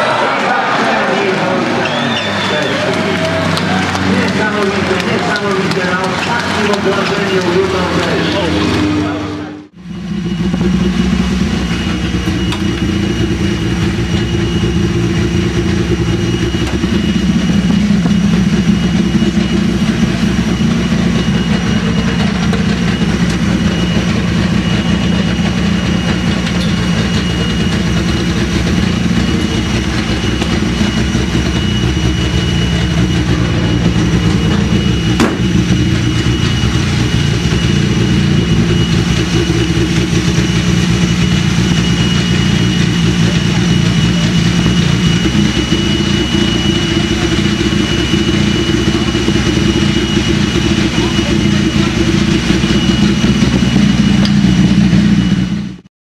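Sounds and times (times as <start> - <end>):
car engine idling: 0.0 - 55.9
thin high whine: 0.0 - 55.9.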